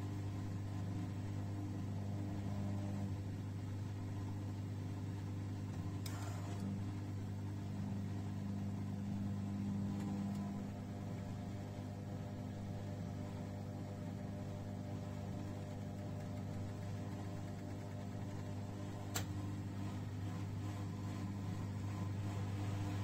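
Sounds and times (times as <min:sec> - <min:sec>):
washer-dryer humming: 0:00.0 - 0:23.0.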